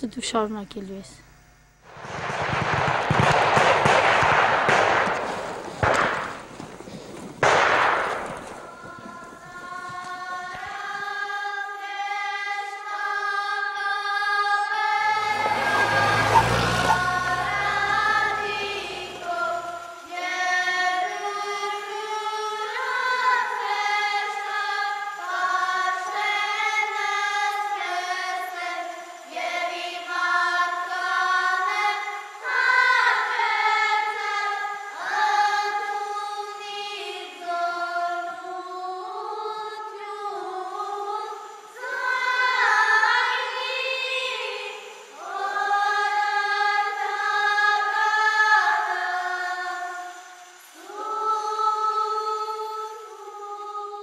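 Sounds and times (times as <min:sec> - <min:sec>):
choir of high voices singing: 0:08.7 - 0:54.0.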